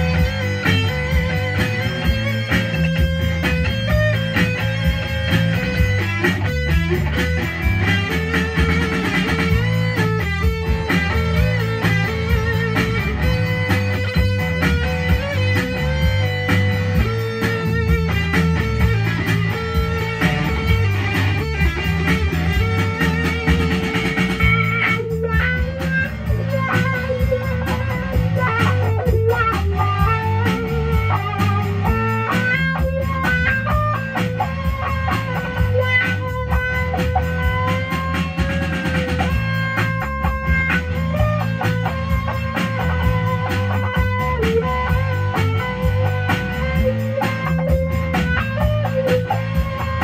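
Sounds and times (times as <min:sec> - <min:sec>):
electric guitar lead notes: 0:00.0 - 0:50.0
low accompaniment: 0:00.0 - 0:50.0.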